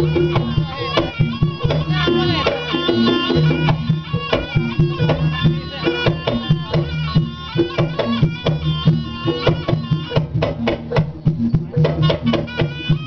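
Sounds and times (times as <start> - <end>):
drums beating brisk rhythm: 0.0 - 13.0
high sliding melody: 0.0 - 13.0.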